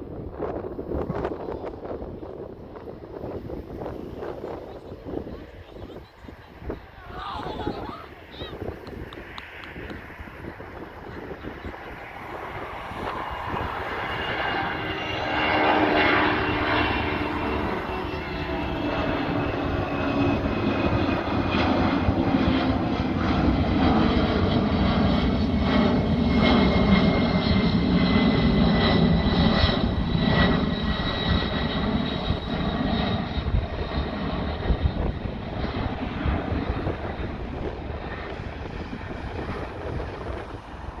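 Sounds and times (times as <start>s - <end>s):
jet engines roaring at takeoff: 0.0s - 41.0s.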